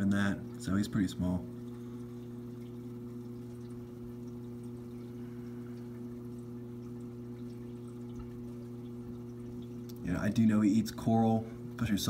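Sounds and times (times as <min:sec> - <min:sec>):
low hum: 0:00.0 - 0:12.0
water pouring: 0:00.0 - 0:12.0.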